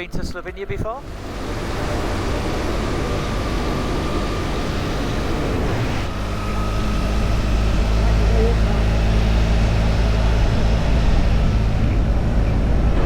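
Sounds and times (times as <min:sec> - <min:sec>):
wind rush: 0:00.0 - 0:13.0
motorcycle engine running: 0:01.0 - 0:13.0.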